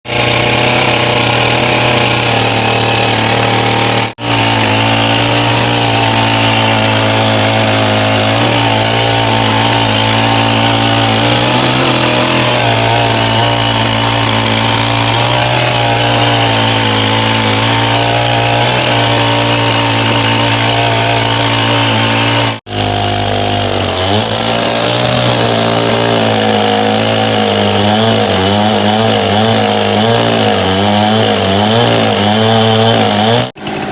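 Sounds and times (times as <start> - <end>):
sawmill saw cutting logs: 0.0 - 33.9.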